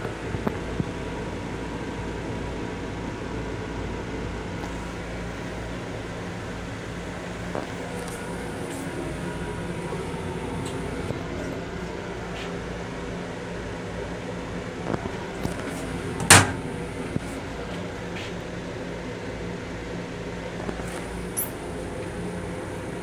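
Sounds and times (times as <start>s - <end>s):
electric railcar hum: 0.0s - 23.0s.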